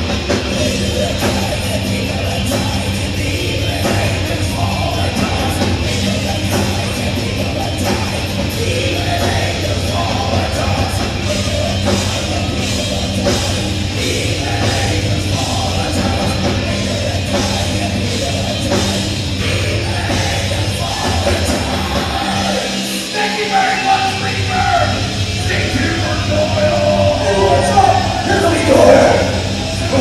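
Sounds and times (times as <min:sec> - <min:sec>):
live heavy rock band playing: 0:00.0 - 0:30.0
singer's vocals: 0:00.0 - 0:30.0.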